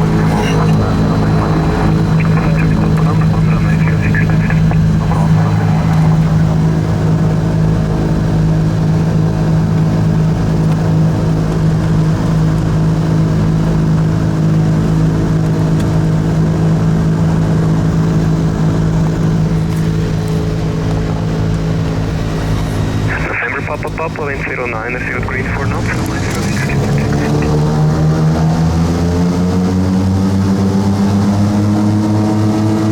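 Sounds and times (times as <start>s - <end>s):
aircraft engines and propellers droning: 0.0s - 32.9s.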